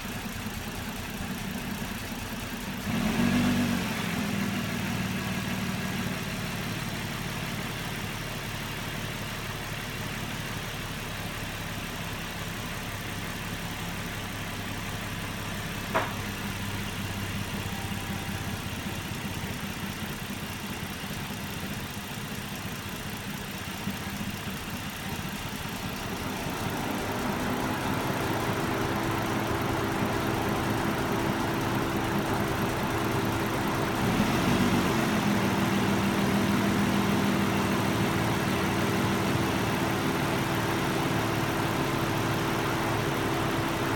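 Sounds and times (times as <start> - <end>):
car engine idling roughly: 0.0 - 3.1, 4.3 - 43.9.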